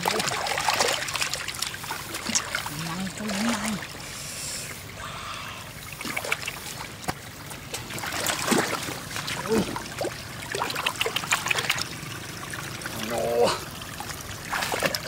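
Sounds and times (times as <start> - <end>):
shallow water splashing and trickling: 0.0 - 15.0
sharp splashes and drips: 0.0 - 15.0.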